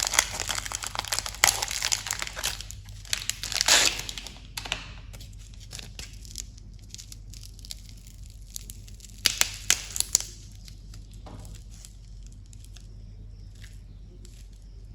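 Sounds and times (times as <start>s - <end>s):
candy wrappers crinkling: 0.0s - 14.9s.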